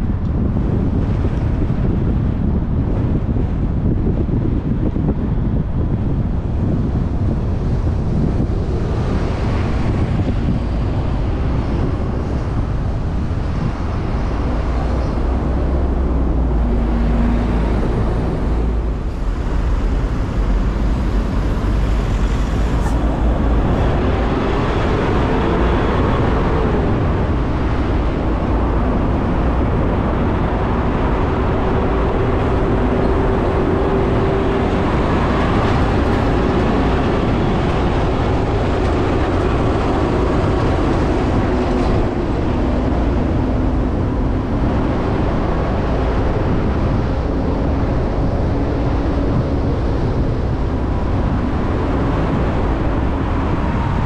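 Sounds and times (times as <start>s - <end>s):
faint engine hums: 0.0s - 54.0s
traffic rumble: 0.0s - 54.0s.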